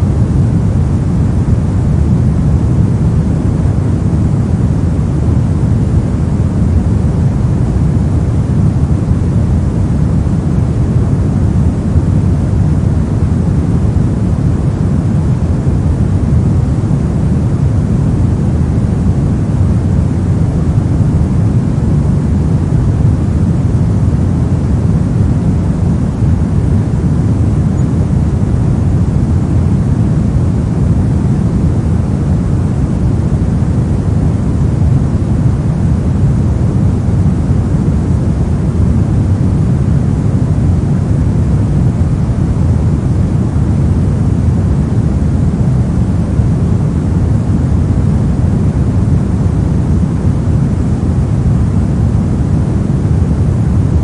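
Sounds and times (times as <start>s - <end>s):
pink noise rush: 0.0s - 54.0s.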